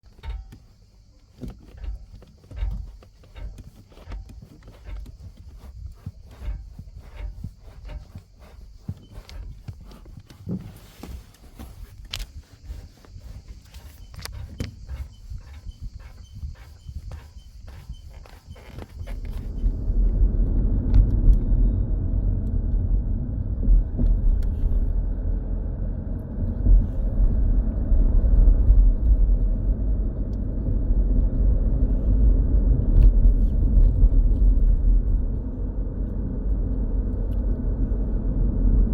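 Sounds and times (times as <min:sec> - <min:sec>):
diesel engine rumbling: 0:00.0 - 0:38.9.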